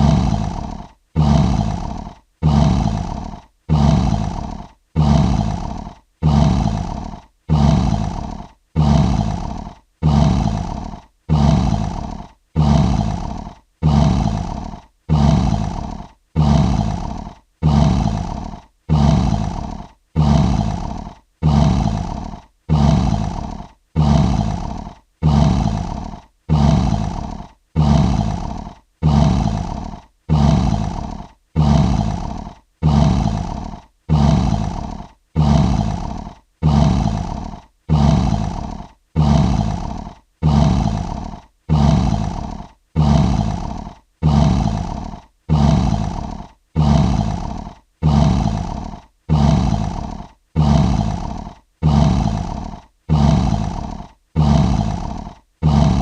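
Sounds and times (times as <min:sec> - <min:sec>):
lion roaring: 0:00.0 - 0:56.0.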